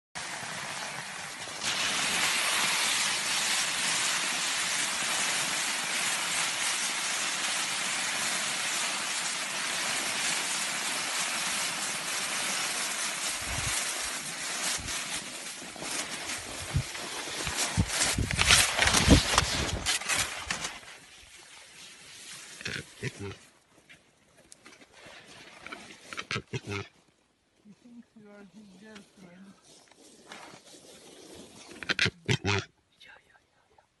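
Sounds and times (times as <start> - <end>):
skis gliding over snow: 0.2 - 26.9, 27.7 - 32.6.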